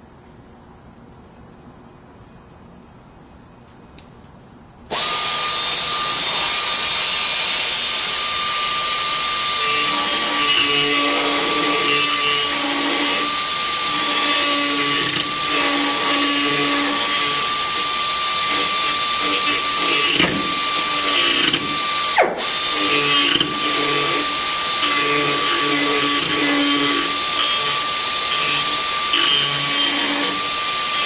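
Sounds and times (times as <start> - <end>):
pneumatic die grinder whine: 4.9 - 31.0
burr grinding metal: 5.8 - 31.0.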